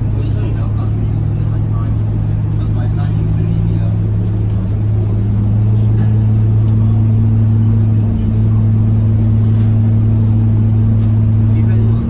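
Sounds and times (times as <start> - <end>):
bus diesel engine drone: 0.0 - 12.0
road noise: 0.0 - 12.0.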